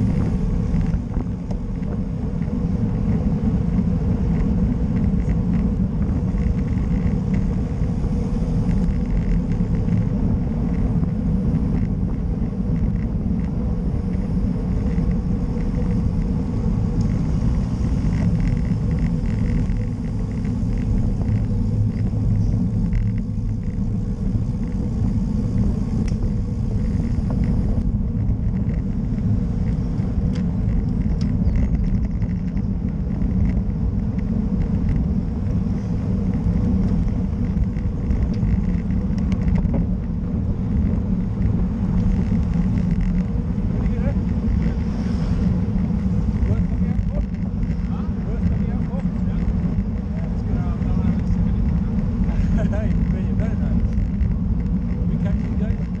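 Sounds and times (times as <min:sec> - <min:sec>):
bike tyres hissing on asphalt: 0:00.0 - 0:55.9
wind rumble on microphone: 0:00.0 - 0:56.0.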